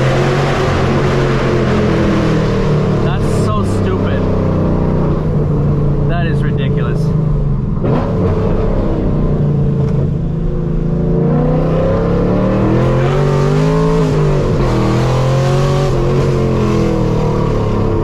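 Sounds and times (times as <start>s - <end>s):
car exhaust accelerating: 0.0s - 18.0s.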